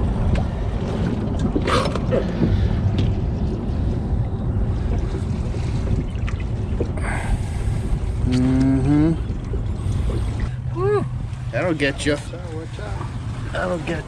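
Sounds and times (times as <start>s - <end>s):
water around boat: 0.0s - 14.0s.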